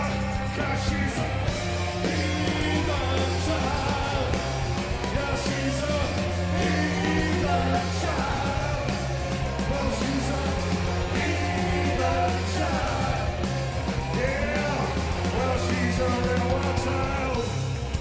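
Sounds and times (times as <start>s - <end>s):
driving drums: 0.0s - 18.0s
heavy bass line: 0.0s - 18.0s
rock band playing live: 0.0s - 18.0s
wailing lead guitar lines: 0.0s - 18.0s.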